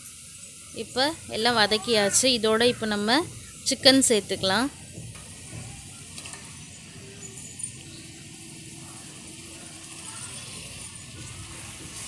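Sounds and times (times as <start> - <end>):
masala sizzling in a pot: 0.0 - 12.0.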